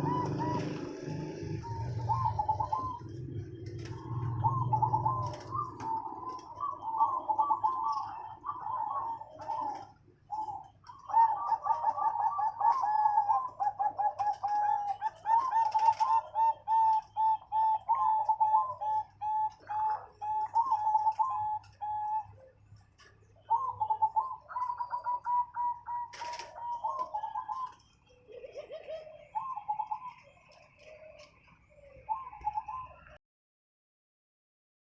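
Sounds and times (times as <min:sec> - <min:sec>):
dove cooing in staccato runs: 0:00.0 - 0:22.3, 0:22.9 - 0:31.4.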